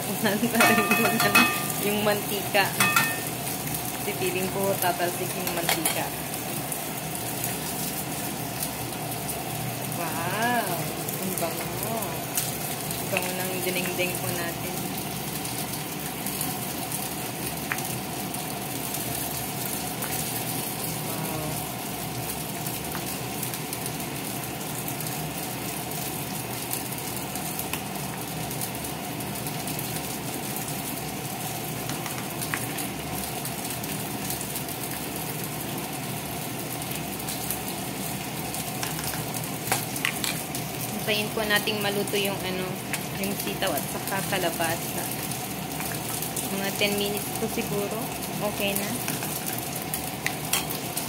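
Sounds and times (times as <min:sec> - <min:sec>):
fish sizzling in oil: 0:00.0 - 0:51.0
soup boiling: 0:00.0 - 0:51.0.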